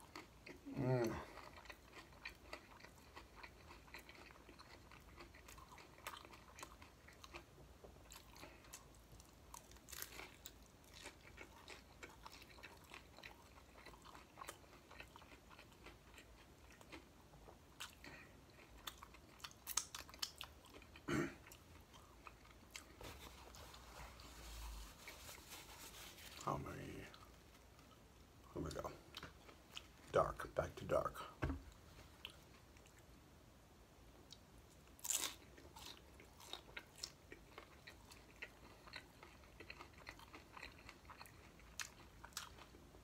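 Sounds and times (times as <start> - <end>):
crunchy chewing: 0.0 - 28.0, 34.3 - 43.0.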